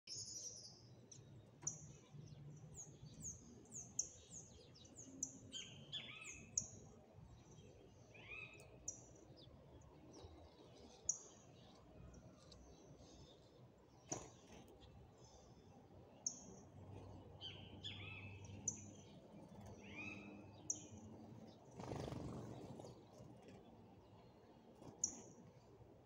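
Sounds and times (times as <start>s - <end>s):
small birds chirping: 0.0s - 25.7s.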